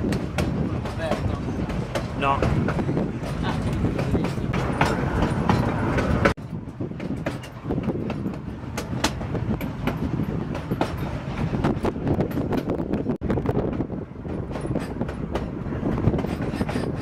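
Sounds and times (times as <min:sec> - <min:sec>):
train coaches rumbling: 0:00.0 - 0:17.0
wheels clicking on track: 0:00.0 - 0:17.0.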